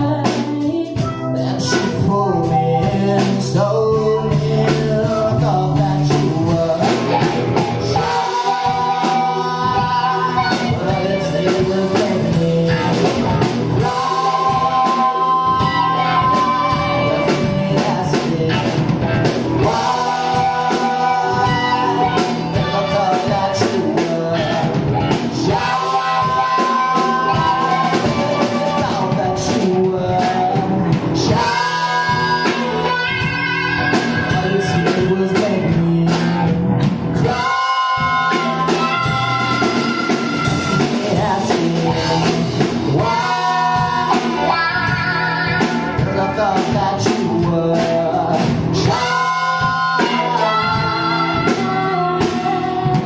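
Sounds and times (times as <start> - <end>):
woman singing: 0.0 - 18.8, 19.6 - 36.4, 37.2 - 53.0
soul funk band playing: 0.0 - 53.0.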